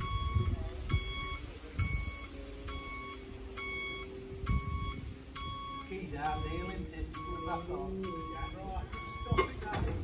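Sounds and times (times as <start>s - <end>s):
reversing alarm beeping: 0.0s - 9.9s.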